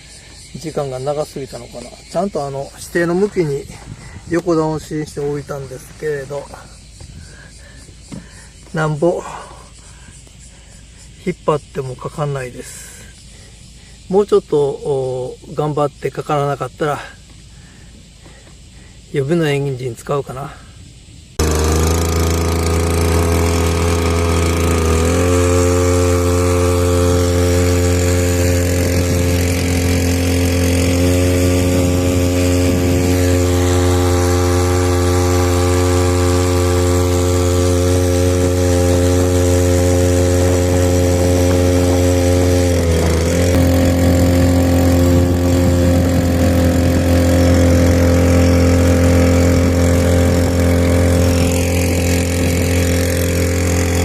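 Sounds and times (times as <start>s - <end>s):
outboard motor running: 0.0s - 10.6s, 21.4s - 54.0s.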